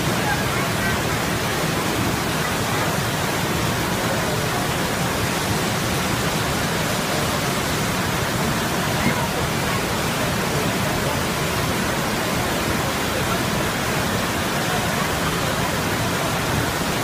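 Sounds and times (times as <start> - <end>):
waterfall rushing onto rocks: 0.0 - 17.0.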